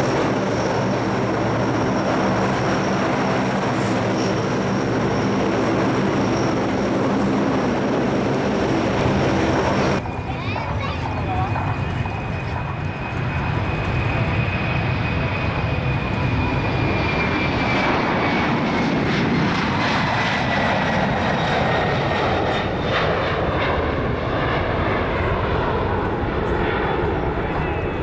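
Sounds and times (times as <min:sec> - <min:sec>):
thin high engine whine: 0:00.0 - 0:23.3
jet engines at takeoff: 0:00.0 - 0:28.0.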